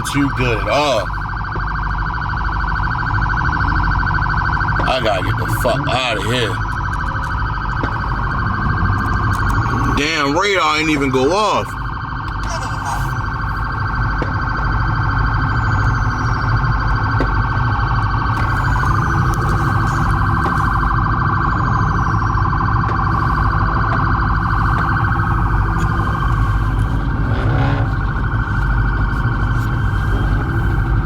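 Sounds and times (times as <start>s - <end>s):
low engine rumble: 0.0s - 31.0s
police siren warbling: 0.0s - 31.0s.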